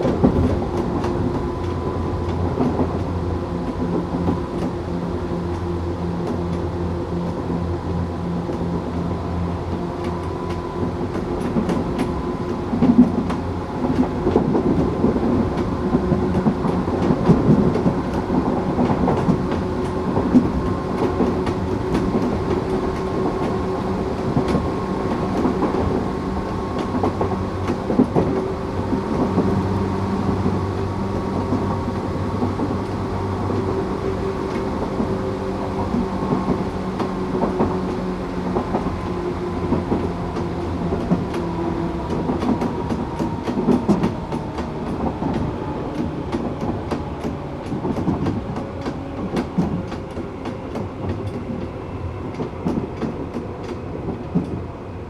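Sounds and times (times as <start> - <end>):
electric train motor humming: 0.0 - 55.0
wheels clicking over rail joints: 8.5 - 54.9.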